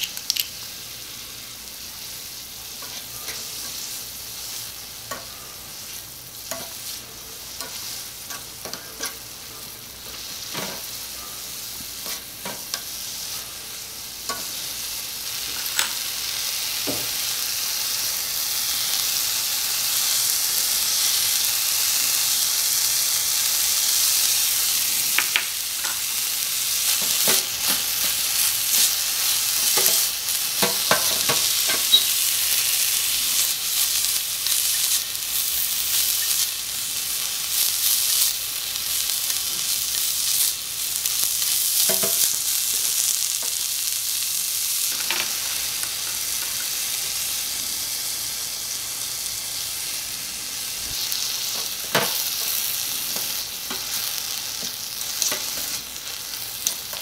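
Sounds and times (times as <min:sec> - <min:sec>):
stir-fry sizzling in wok: 0:00.0 - 0:57.0.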